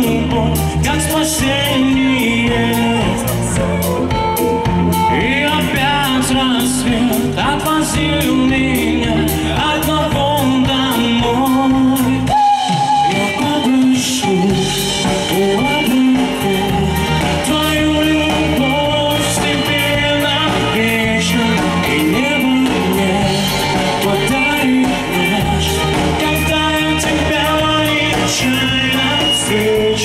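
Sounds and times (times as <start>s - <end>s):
bass guitar: 0.0s - 30.0s
drum kit: 0.0s - 30.0s
electric guitar: 0.0s - 30.0s
man singing lead: 0.0s - 30.0s.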